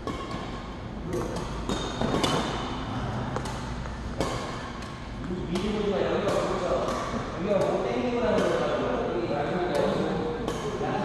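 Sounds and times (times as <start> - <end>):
badminton racket hitting shuttlecock: 0.0 - 2.8, 3.4 - 11.0.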